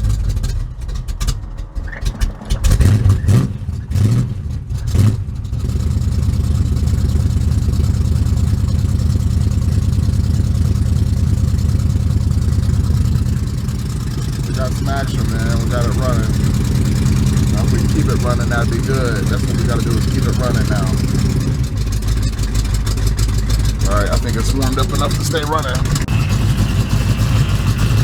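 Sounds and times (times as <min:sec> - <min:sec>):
car engine revving unevenly: 0:02.3 - 0:28.0.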